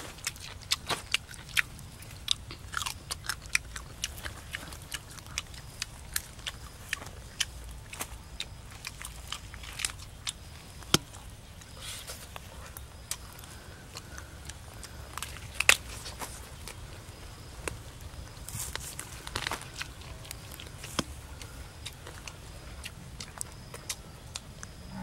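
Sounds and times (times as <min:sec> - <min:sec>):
crunchy chewing: 0:00.0 - 0:25.0.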